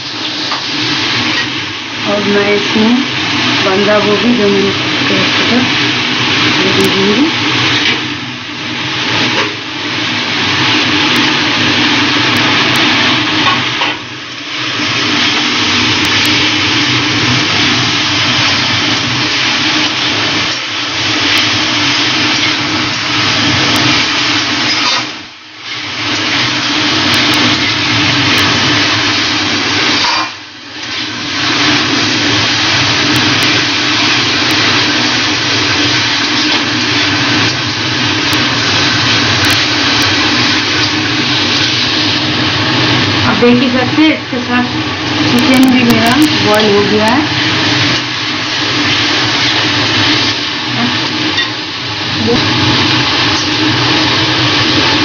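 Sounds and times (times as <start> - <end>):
food stir-frying in a pan: 0.0 - 55.0
steady hum: 0.0 - 55.0.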